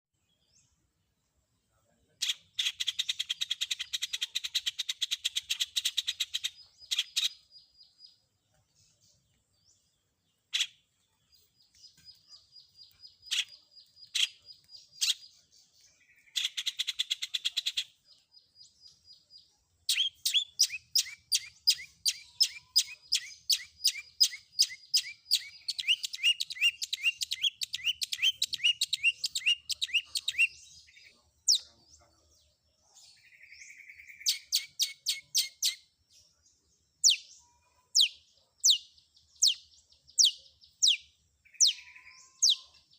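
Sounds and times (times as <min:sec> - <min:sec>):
bird singing harsh chattering: 0:02.0 - 0:42.9.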